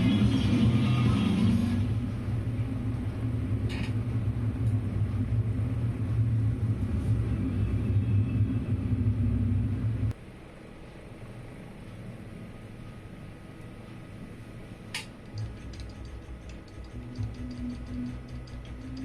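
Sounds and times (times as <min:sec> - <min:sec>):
low engine-like rumble: 0:00.0 - 0:19.0.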